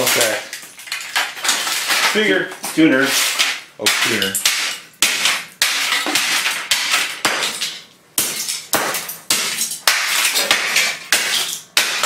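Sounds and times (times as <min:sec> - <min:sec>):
fragments clattering: 0:00.0 - 0:12.0
hammer smashing plastic: 0:00.0 - 0:12.0.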